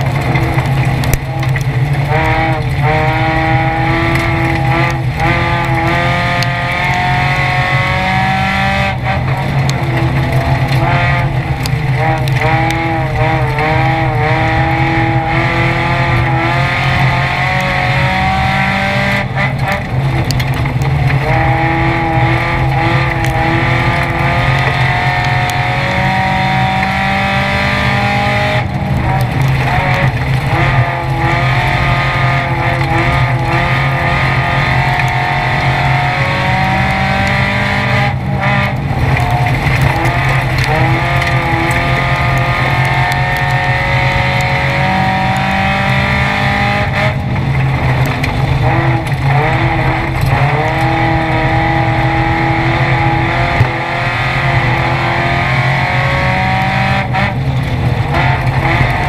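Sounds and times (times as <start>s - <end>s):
race car engine at full load: 0.0s - 59.0s
road and wind noise: 0.0s - 59.0s.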